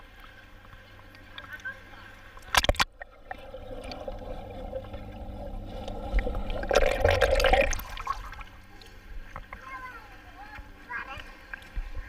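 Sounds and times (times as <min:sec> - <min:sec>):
pool water splashing: 0:00.0 - 0:11.8.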